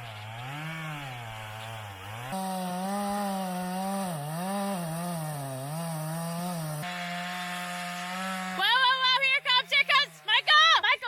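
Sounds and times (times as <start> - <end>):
chainsaw cutting into a trunk: 0.0 - 10.4.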